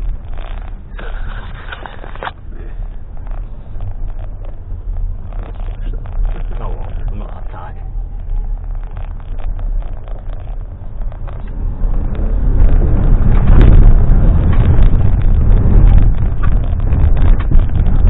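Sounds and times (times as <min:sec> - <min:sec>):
tyres and suspension rumbling: 0:00.0 - 0:18.0.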